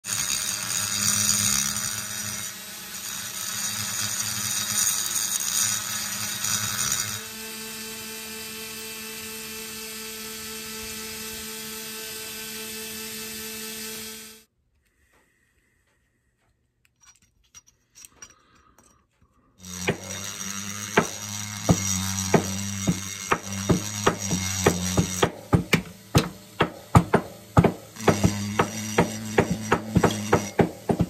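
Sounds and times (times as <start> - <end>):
rotary tool grinding metal: 0.0 - 14.5, 16.9 - 31.0.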